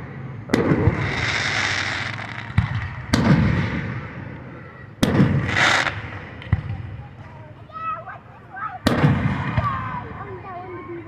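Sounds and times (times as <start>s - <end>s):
fireworks bangs: 0.0s - 8.1s, 8.7s - 10.7s.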